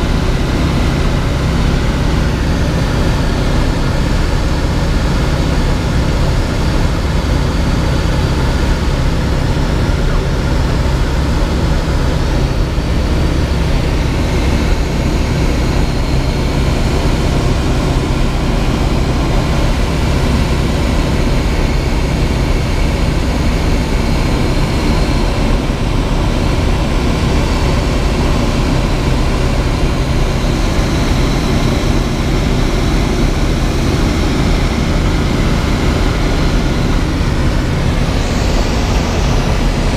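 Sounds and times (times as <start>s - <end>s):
aircraft engine and propeller droning: 0.0s - 39.9s
rush of airflow: 0.0s - 39.9s.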